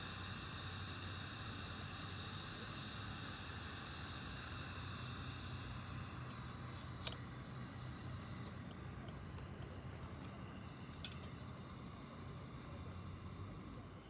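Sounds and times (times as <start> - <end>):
low steady hum: 0.0 - 14.0
pressure lantern hissing: 0.0 - 14.0.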